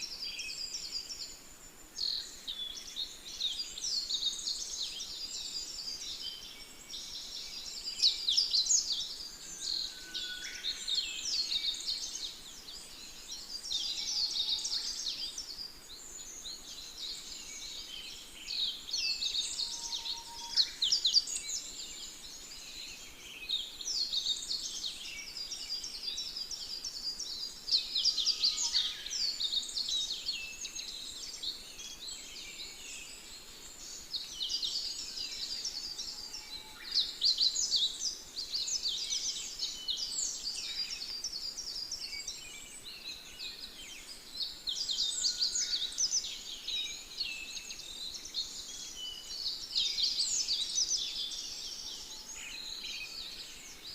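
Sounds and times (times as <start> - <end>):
birds chirping and singing: 2.0 - 53.9.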